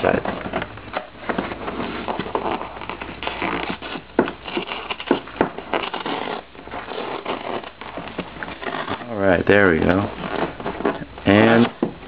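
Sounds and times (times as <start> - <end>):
cardboard ripping and crackling: 0.0 - 12.0
sharp cardboard cracks: 0.0 - 12.0.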